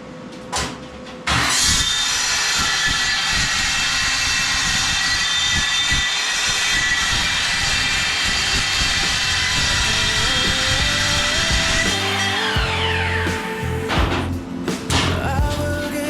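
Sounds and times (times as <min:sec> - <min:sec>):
angle grinder on steel: 0:01.4 - 0:15.2.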